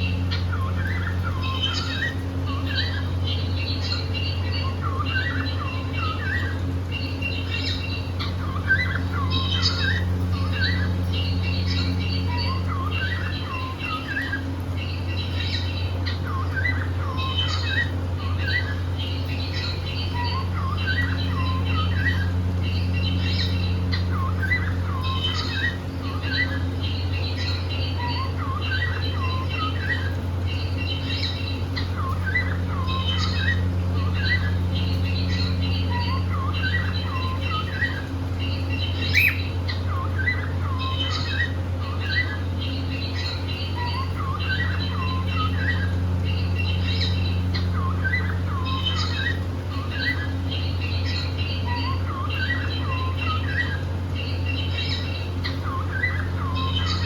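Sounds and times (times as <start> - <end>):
low steady hum: 0.0 - 57.0
cockatiel chirping and squawking: 0.3 - 14.4, 15.1 - 30.2, 30.8 - 45.9, 46.6 - 53.8, 54.5 - 57.0.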